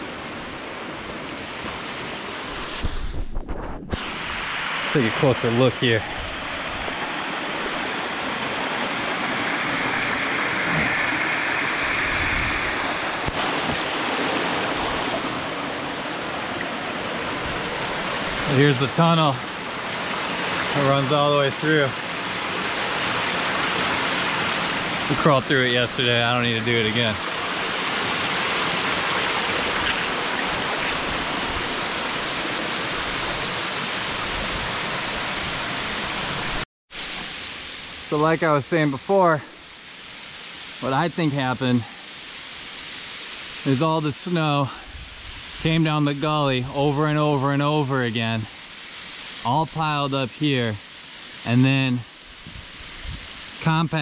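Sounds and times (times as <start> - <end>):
stream rushing over rocks: 4.1 - 54.0.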